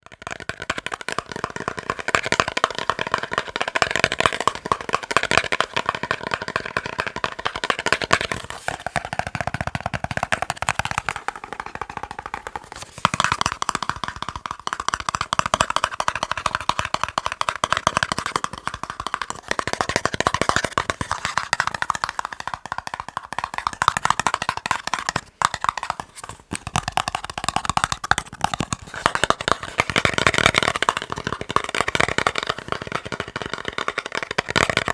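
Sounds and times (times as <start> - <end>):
fast tapping on boxes: 0.0 - 34.9.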